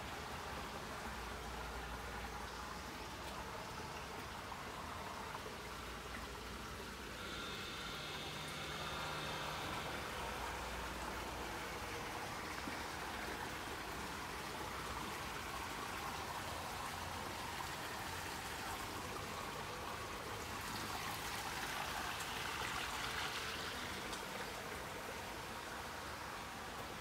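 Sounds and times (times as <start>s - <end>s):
running and trickling water: 0.0s - 27.0s.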